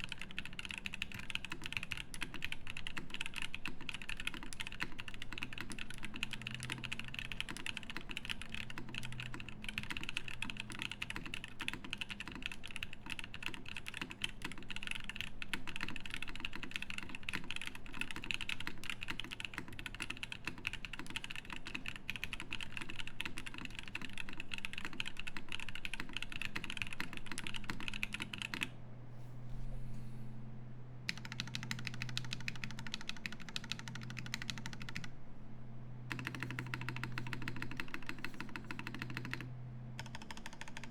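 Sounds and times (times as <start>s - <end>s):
mechanical keyboard typing: 0.0s - 28.7s, 31.1s - 35.1s, 36.1s - 40.9s.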